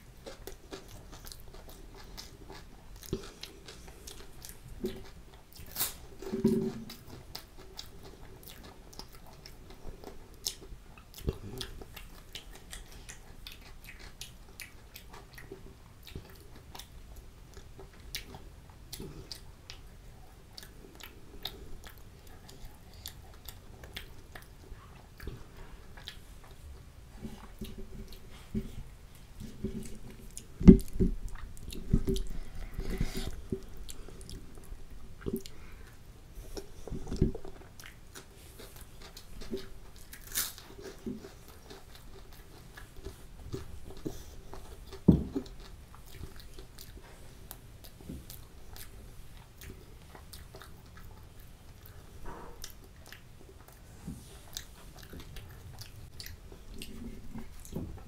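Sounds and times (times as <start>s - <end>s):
close chewing and biting: 0.0s - 58.0s
faint steady hum: 0.0s - 58.0s.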